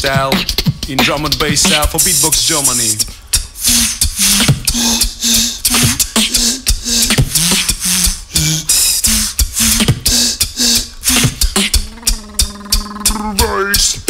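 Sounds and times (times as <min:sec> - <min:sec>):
beatboxing: 0:00.0 - 0:14.0.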